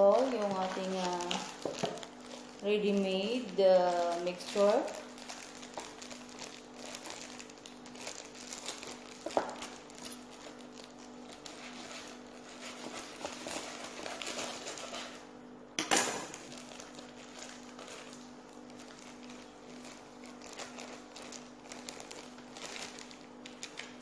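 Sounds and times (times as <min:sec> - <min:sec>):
plastic bag crinkling: 0:00.0 - 0:15.4, 0:16.0 - 0:24.0
steady low hum: 0:00.0 - 0:24.0.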